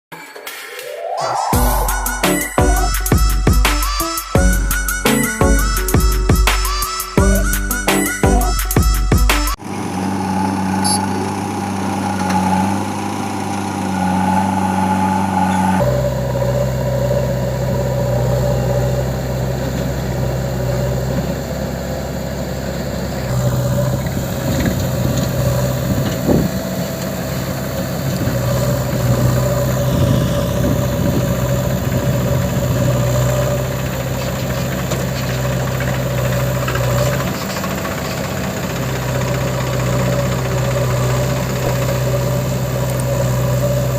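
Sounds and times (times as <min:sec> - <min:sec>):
heavy diesel engine running: 0:01.6 - 0:43.9.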